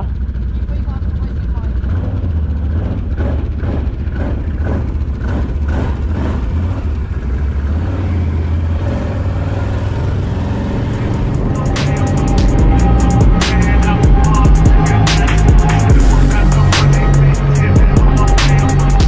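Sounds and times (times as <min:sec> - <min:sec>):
dirt bike engine running: 0:00.0 - 0:07.7, 0:09.5 - 0:19.0.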